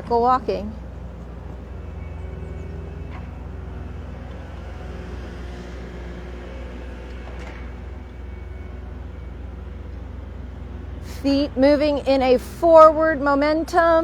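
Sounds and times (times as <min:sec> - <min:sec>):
distant engines rumbling: 0:00.0 - 0:14.0
faint hum: 0:00.0 - 0:14.0.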